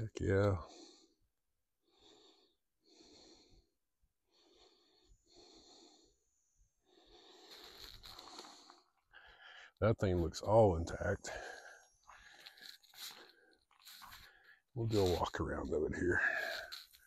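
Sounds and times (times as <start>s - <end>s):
person breathing softly: 0.6s - 10.3s, 11.2s - 15.4s, 16.0s - 17.0s.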